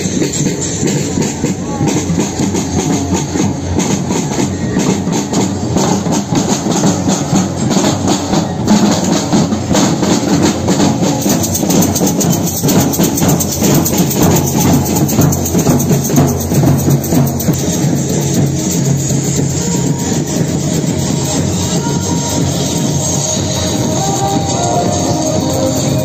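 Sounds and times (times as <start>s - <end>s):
marching drums playing: 0.0s - 26.0s.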